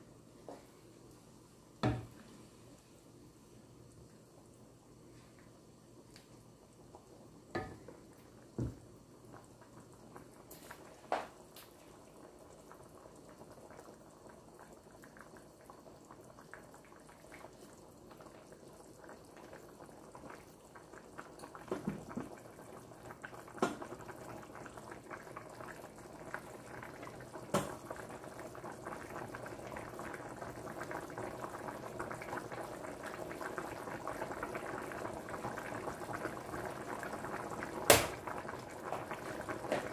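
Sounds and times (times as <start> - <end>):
broth bubbling in a pan: 0.0 - 39.9.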